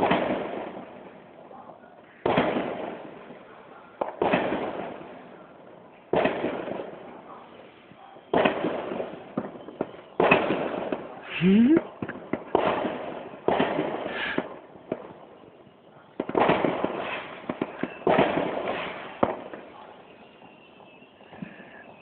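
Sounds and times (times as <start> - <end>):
fireworks bangs echoing: 0.0 - 22.0
fireworks crackles: 0.0 - 22.0.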